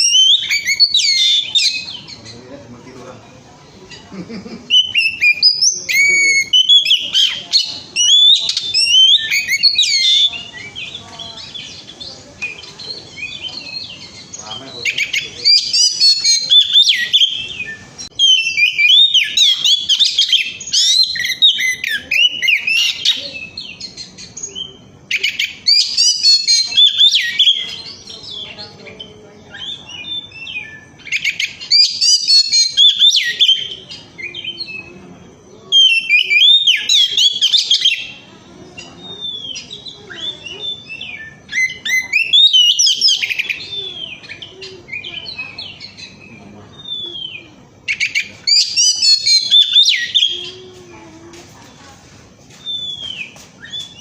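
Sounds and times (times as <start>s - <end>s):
bird singing whistles and trills: 0.0s - 2.5s, 4.7s - 50.7s, 52.5s - 54.0s
quiet bird twittering: 0.0s - 54.0s.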